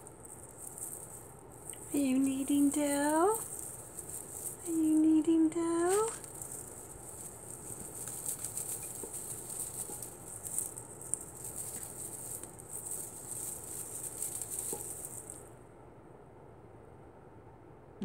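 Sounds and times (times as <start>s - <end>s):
wand toy rustling and swishing: 0.0s - 15.6s.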